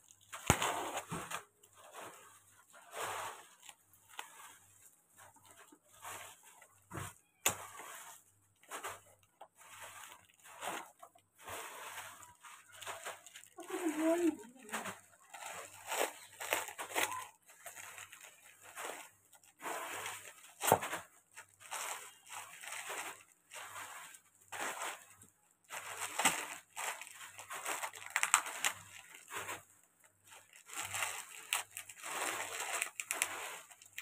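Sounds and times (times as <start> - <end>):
plastic wrap crinkling: 0.0 - 34.0.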